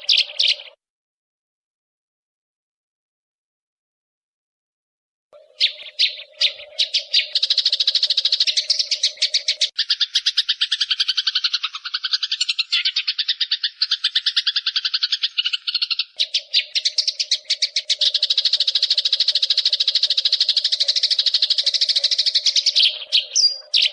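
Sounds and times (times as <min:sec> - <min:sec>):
sparrows chattering: 0:00.0 - 0:00.8, 0:05.4 - 0:23.9.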